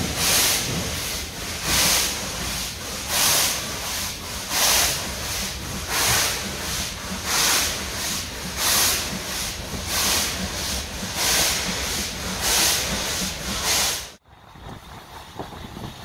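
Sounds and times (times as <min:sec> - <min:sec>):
hissing steam: 0:00.0 - 0:14.2
steam locomotive exhaust chuffs: 0:00.0 - 0:16.0.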